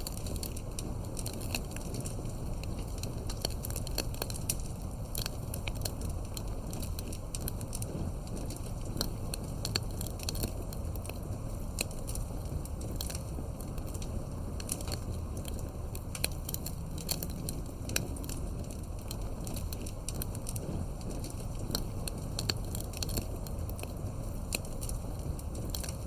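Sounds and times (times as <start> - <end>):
low noise of flame: 0.0 - 26.0
wood crackling and popping: 0.0 - 26.0.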